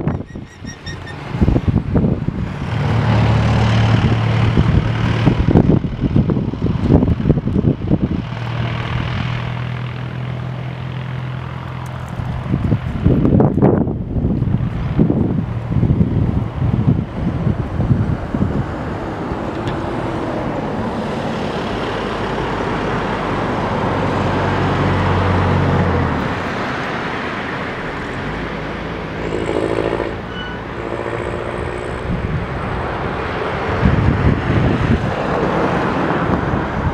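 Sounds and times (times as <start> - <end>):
turboprop engine drone: 0.0 - 36.9
wind gusting on microphone: 0.0 - 36.9.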